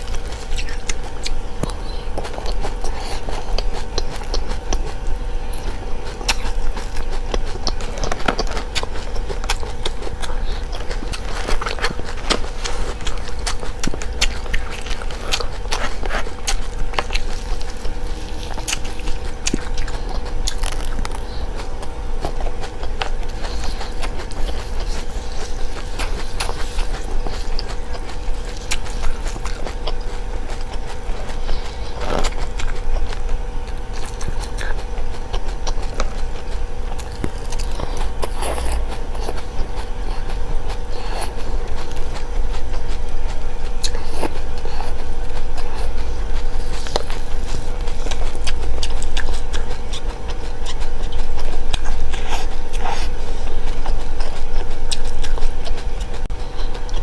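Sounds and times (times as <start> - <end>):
chewing and crunching seeds: 0.0 - 57.0
steady low hum: 0.0 - 57.0.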